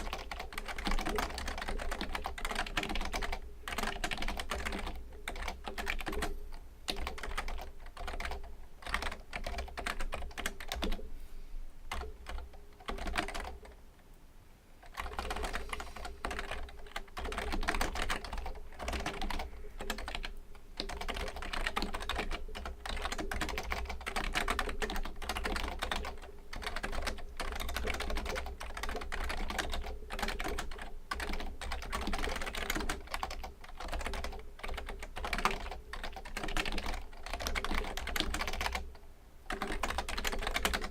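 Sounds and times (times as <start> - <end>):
keyboard typing: 0.0 - 11.0, 11.9 - 13.8, 14.8 - 40.9.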